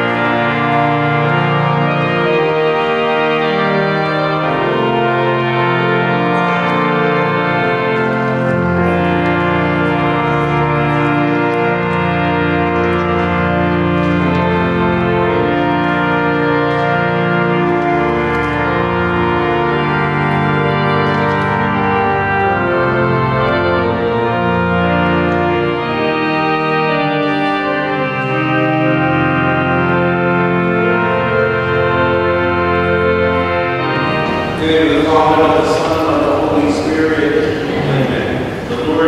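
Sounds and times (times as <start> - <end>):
church organ chords: 0.0 - 39.0.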